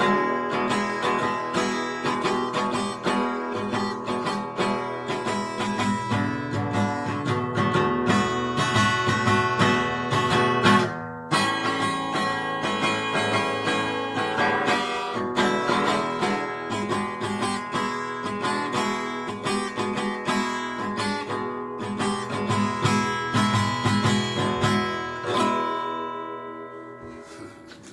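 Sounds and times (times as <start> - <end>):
acoustic guitar blues strumming: 0.0 - 27.9.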